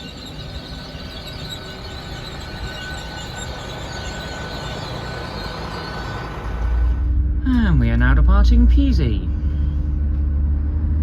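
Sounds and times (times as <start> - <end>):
train rumble and hiss: 0.0 - 9.8
faint steady whine: 0.0 - 10.0.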